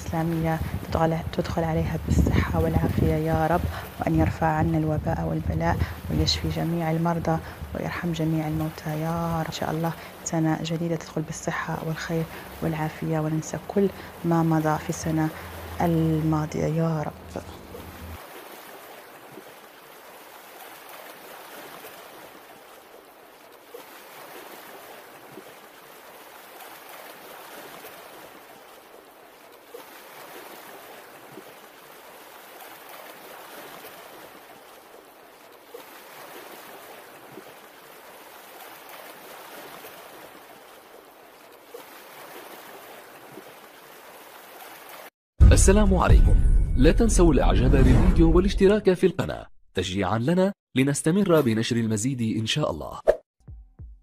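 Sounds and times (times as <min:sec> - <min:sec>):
water rushing and lapping: 0:00.0 - 0:49.0.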